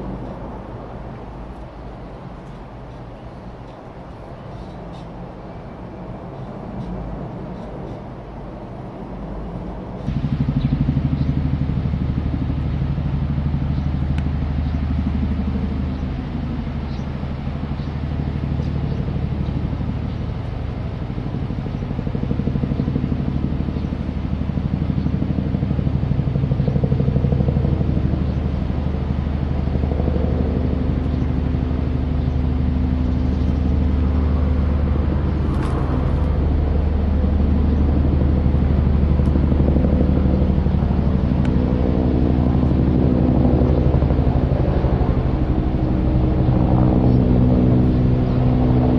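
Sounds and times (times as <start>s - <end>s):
helicopter flying overhead: 0.0s - 48.9s.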